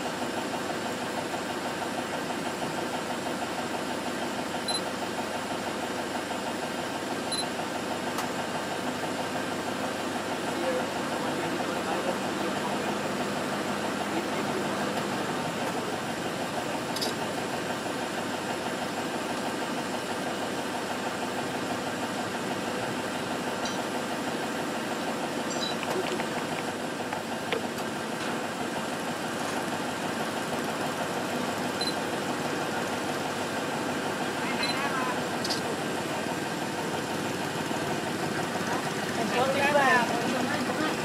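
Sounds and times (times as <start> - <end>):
vehicle engines idling: 0.0 - 41.0.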